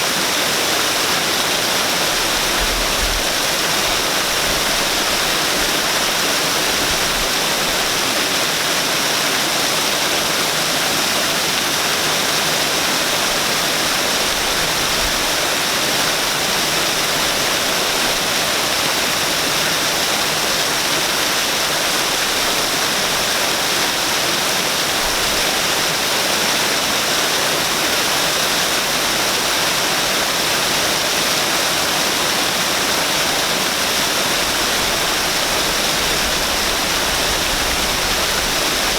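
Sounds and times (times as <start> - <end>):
waterfall pouring and splashing: 0.0 - 38.9.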